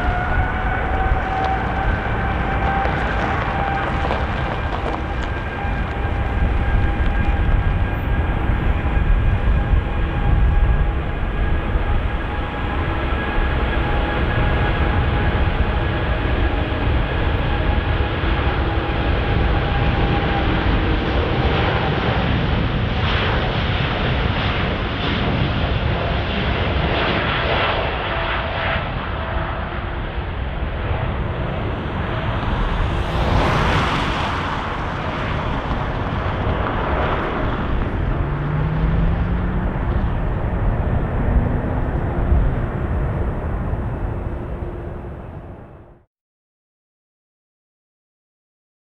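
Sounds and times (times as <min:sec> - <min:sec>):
faint engine whine: 0:00.0 - 0:46.1
jet engines rumbling: 0:00.0 - 0:46.1.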